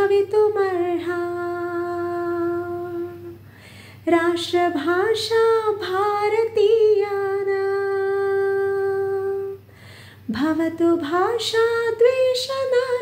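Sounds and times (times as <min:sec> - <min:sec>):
woman singing unaccompanied: 0:00.0 - 0:03.4, 0:04.0 - 0:13.0.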